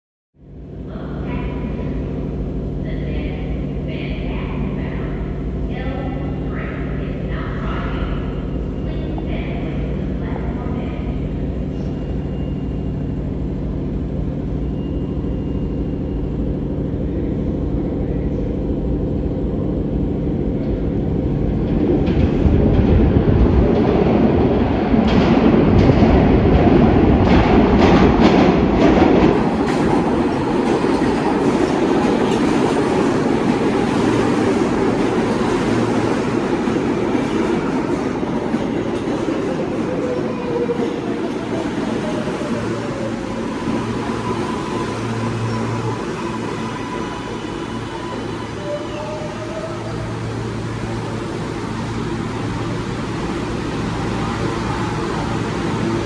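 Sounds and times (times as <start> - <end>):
subway train rumble: 0.4 - 56.0.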